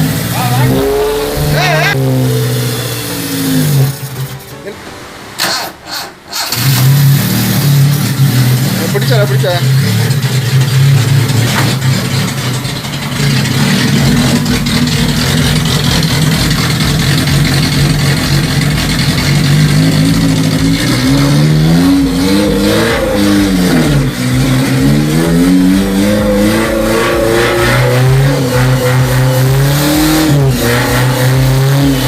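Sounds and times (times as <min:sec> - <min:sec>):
car engine revving: 0:00.0 - 0:04.6, 0:05.2 - 0:32.0.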